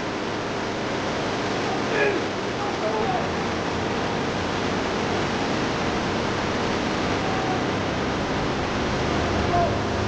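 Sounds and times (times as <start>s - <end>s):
waterfall rushing: 0.1s - 10.0s.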